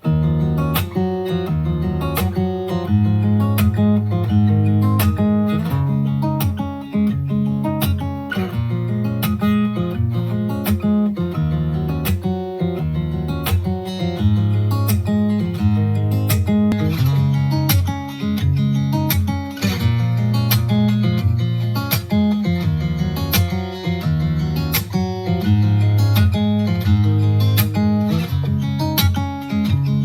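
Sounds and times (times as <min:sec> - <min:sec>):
acoustic guitar strummed chords: 0:00.0 - 0:30.0.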